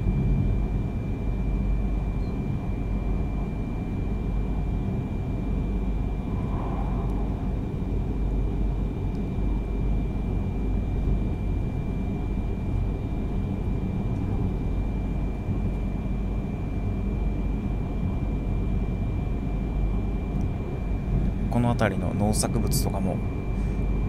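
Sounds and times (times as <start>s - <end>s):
train rumble from inside: 0.0s - 24.0s.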